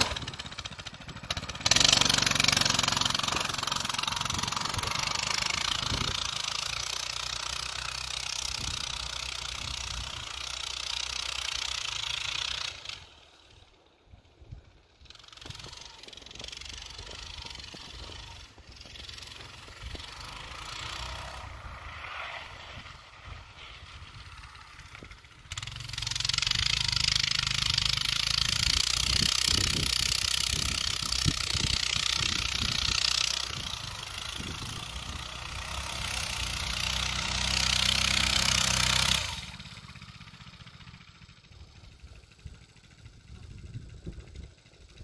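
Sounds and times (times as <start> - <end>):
minibike engine running: 0.0 - 45.0.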